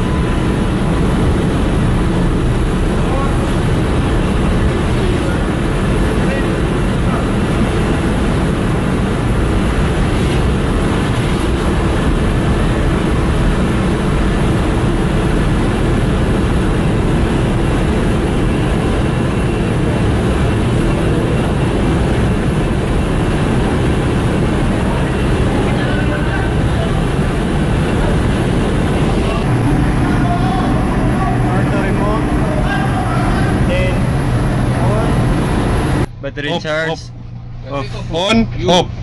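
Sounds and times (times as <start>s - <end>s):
ship engine machinery noise: 0.0s - 39.0s.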